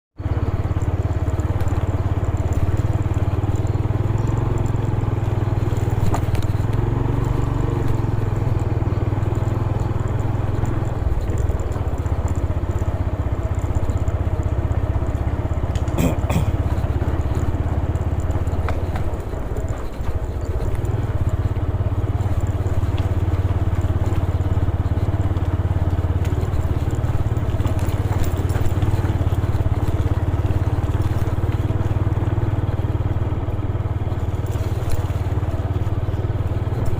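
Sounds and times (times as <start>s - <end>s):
motorcycle engine running: 0.2s - 36.9s.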